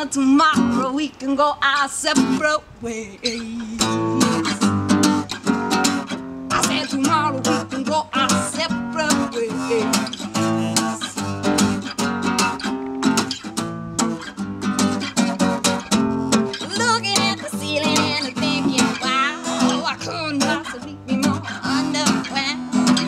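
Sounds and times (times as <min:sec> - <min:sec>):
woman singing: 0:00.0 - 0:11.9, 0:16.3 - 0:23.0
acoustic guitar strumming: 0:00.0 - 0:23.0.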